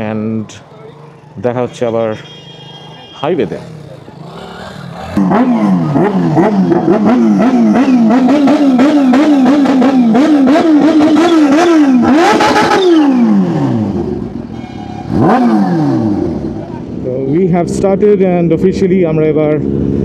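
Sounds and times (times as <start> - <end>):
motorcycle engine revving: 0.0 - 17.2.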